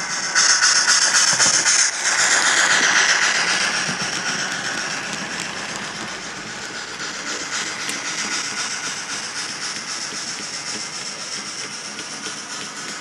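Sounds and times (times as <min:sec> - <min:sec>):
model locomotive chuffing: 0:00.0 - 0:13.0
model locomotive steam hiss: 0:00.0 - 0:13.0.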